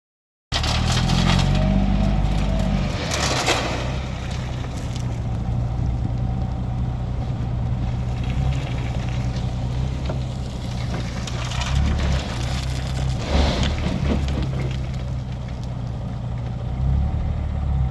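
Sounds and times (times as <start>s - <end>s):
truck engine running: 0.6s - 17.9s.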